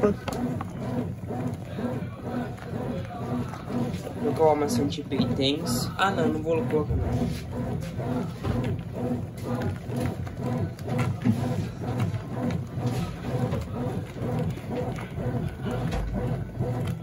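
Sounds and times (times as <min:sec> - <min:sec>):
washing machine agitating: 0:00.0 - 0:17.0.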